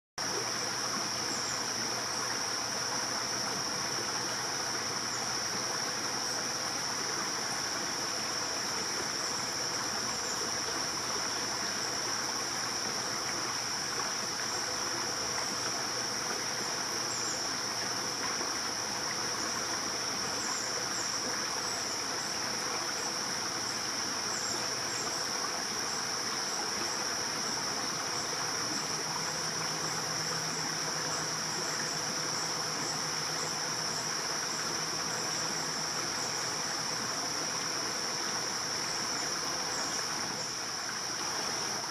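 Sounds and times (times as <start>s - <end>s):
crickets trilling: 0.2s - 41.9s
rushing stream noise: 0.2s - 41.9s.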